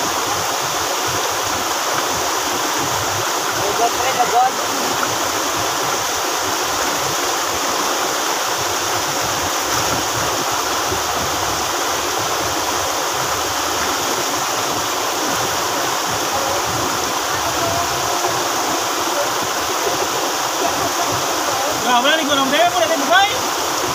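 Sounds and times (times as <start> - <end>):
stream rushing over boulders: 0.0 - 23.9.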